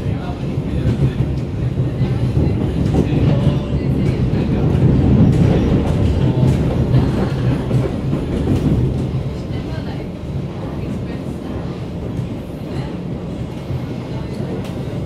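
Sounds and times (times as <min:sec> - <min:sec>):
low rumble of wheels on rail: 0:00.0 - 0:15.0.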